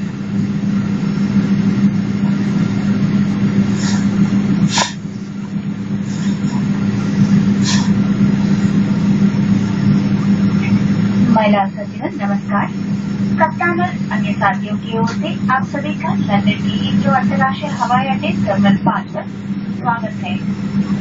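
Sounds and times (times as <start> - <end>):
aircraft cabin drone: 0.0 - 21.0.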